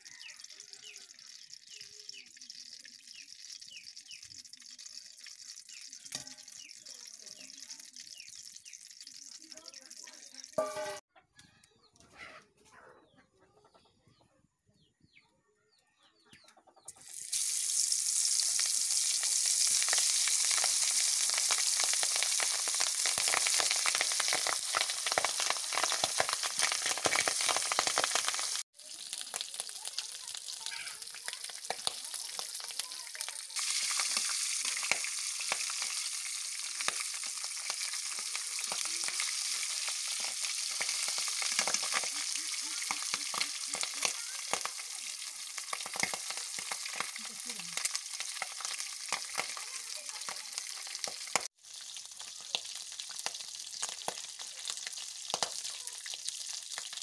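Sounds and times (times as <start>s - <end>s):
chicken frying in oil: 0.0s - 11.0s, 16.9s - 57.0s.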